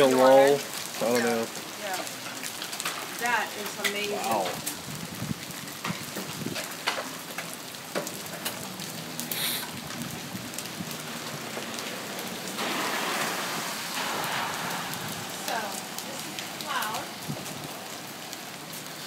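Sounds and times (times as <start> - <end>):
steady rain on pavement: 0.0 - 19.0
ticks of single raindrops: 0.0 - 19.0.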